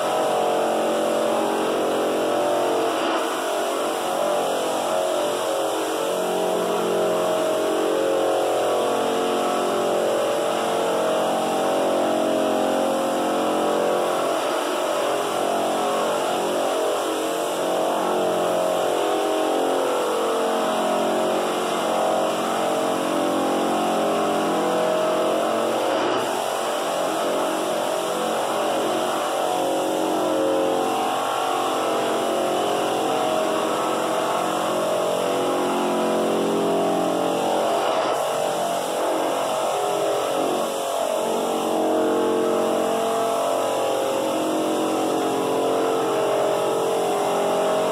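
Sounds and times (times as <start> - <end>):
shop vacuum running: 0.0 - 47.9.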